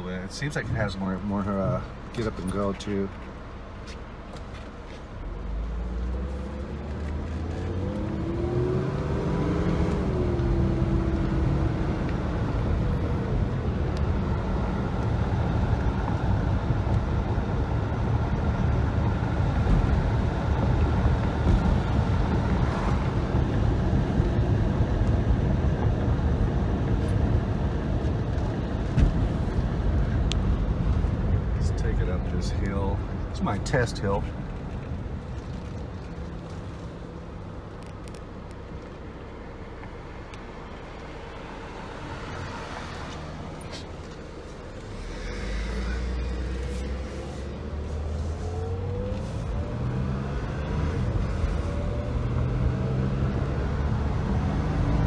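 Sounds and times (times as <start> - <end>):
car engine accelerating: 5.2 - 55.0.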